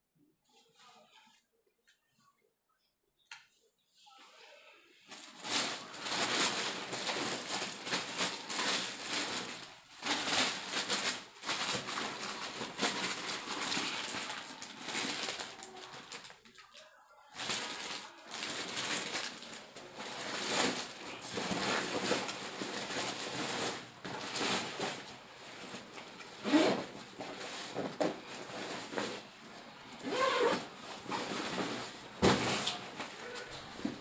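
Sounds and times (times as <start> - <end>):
plastic wrapping rustling and crinkling: 4.2 - 34.0.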